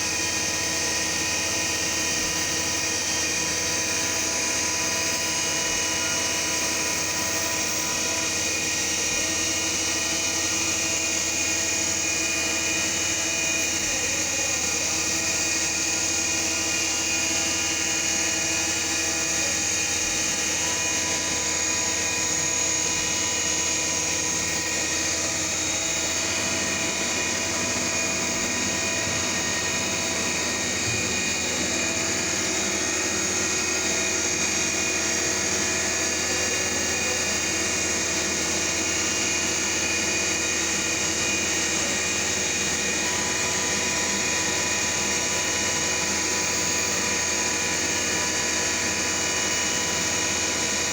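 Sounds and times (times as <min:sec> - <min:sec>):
milling machine spindle whine: 0:00.0 - 0:50.9.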